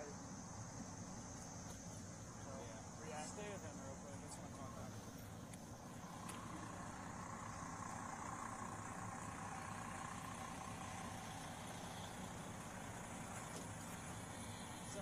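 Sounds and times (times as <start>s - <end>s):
fire truck engine idling: 0.0s - 15.0s
outdoor background noise: 0.0s - 15.0s.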